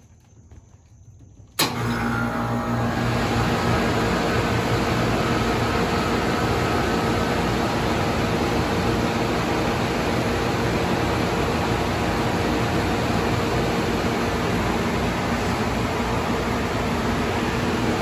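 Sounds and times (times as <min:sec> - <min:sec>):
compressor humming: 0:00.0 - 0:18.0
fan air rushing: 0:01.6 - 0:18.0.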